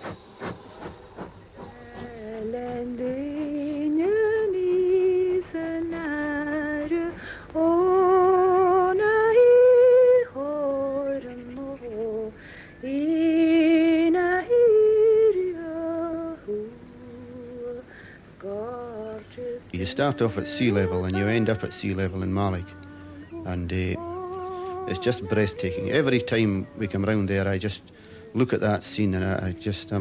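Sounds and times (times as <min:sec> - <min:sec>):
woman singing slow melody: 0:01.6 - 0:30.0.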